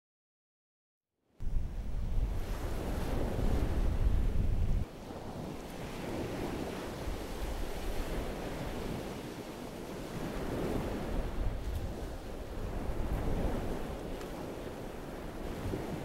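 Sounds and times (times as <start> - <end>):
wind rumbling on microphone: 1.4 - 16.0
waves washing on beach: 1.5 - 16.0.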